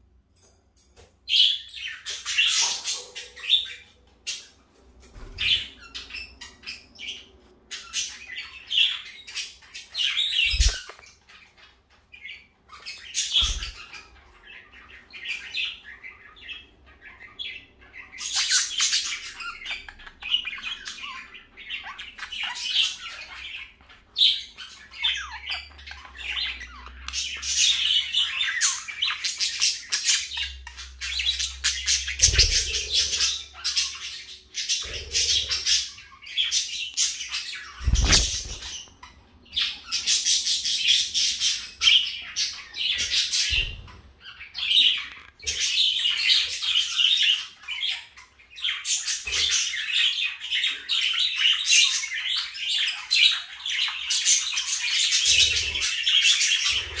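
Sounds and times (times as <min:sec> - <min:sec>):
budgerigars warbling and chattering: 0:01.3 - 0:57.0.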